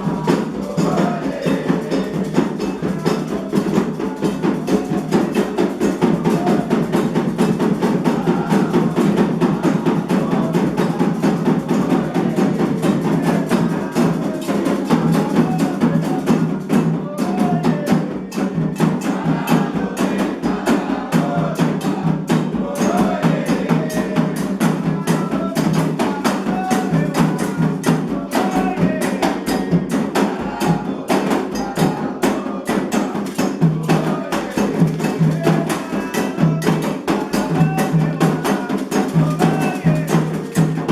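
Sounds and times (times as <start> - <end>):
hand drums beating fast rhythm: 0.0 - 40.9
people singing: 0.0 - 40.9.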